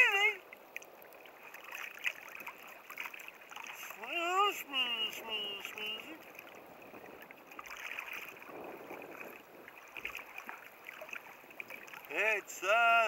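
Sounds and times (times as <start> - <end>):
small water splashes: 0.0 - 13.0
waves lapping against a kayak: 0.0 - 13.0.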